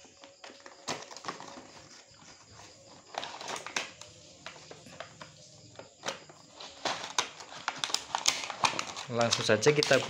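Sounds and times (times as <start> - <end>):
plastic crinkling: 0.0 - 10.0.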